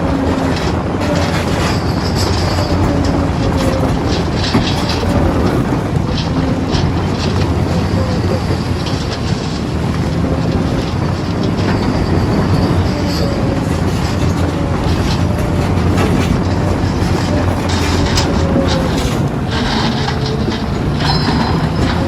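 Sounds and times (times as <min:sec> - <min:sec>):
backhoe diesel engine running: 0:00.0 - 0:22.0
metallic clanks and rattles: 0:00.0 - 0:22.0.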